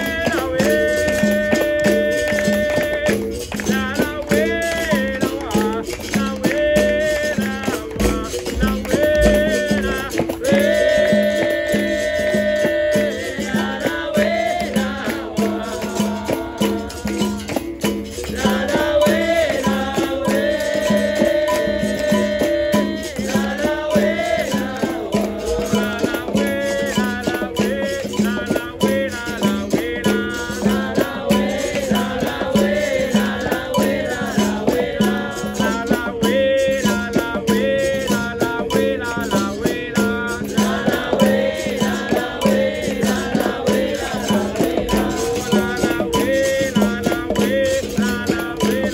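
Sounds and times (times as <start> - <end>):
percussion rhythm: 0.0 - 48.9
shakers rattling: 0.0 - 48.9
voices singing: 0.0 - 48.9.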